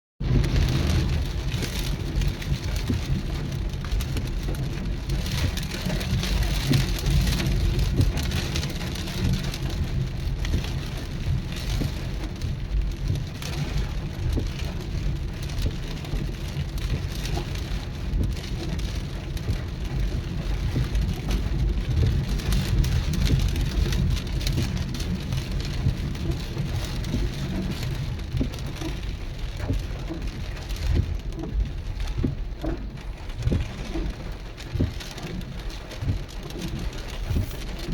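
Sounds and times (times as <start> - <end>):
rain falling: 0.2 - 37.9
wind rumbling on microphone: 0.2 - 37.9.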